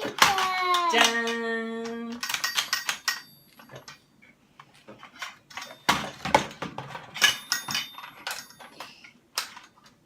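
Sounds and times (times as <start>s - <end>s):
plastic toy pieces clattering: 0.0s - 1.5s, 2.1s - 4.0s, 5.0s - 10.0s.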